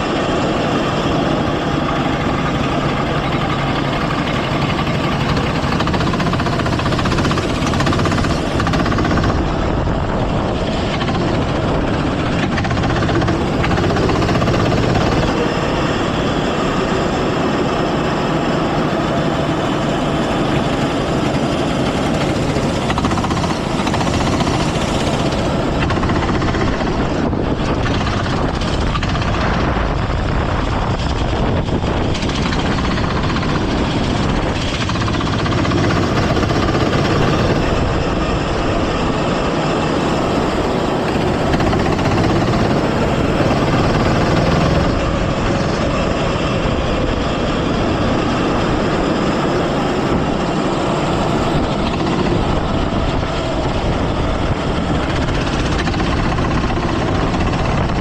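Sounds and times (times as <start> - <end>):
go-kart engine running: 0.0 - 58.0
rattling vibration: 0.0 - 58.0.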